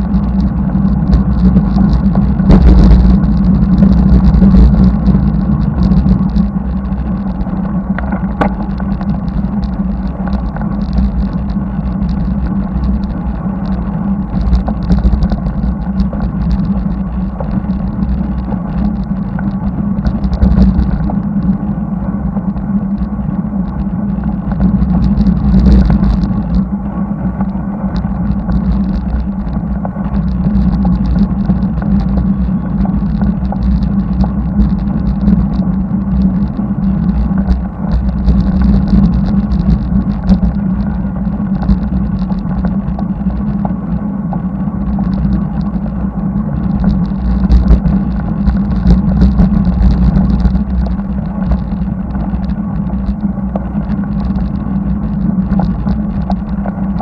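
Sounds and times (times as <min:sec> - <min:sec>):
road noise: 0:00.0 - 0:57.0
wind rumble on microphone: 0:00.0 - 0:57.0.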